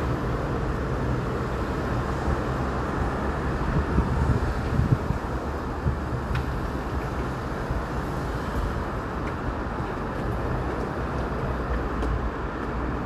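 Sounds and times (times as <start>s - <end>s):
cars moving in traffic: 0.0s - 13.0s.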